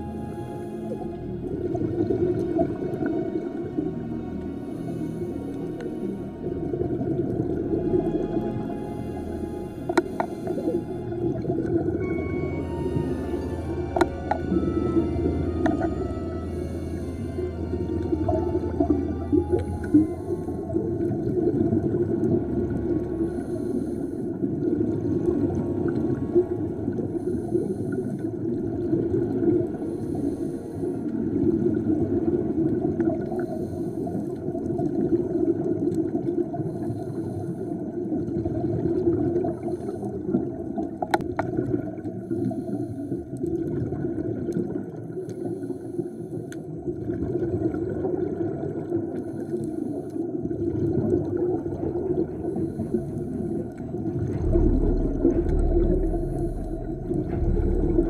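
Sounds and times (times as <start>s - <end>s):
exhaled scuba bubbles: 0.0s - 58.0s
muffled underwater rush: 0.0s - 58.0s.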